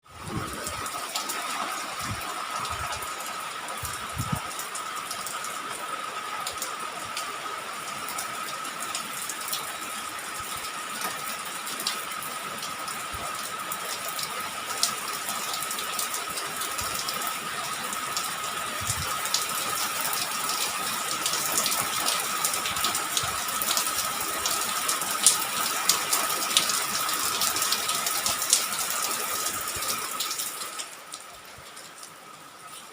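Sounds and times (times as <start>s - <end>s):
rain drops ticking: 0.0s - 32.9s
steady rain hiss: 0.0s - 32.9s.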